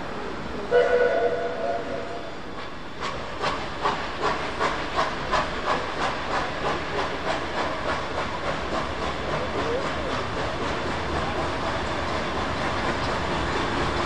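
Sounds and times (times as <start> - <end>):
steam hissing: 0.0 - 14.0
steam locomotive chuffing: 0.0 - 14.0.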